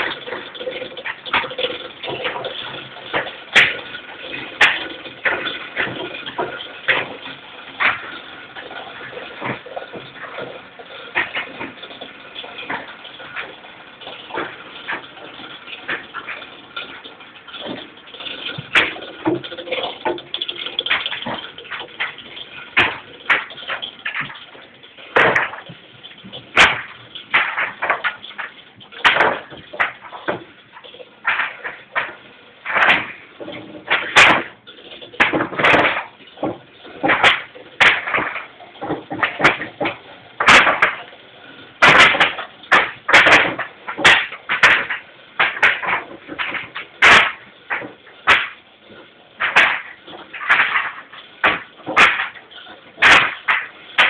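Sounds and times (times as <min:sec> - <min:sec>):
sharp metal clanks: 0:00.0 - 0:41.1, 0:41.8 - 0:48.6, 0:49.4 - 0:54.0.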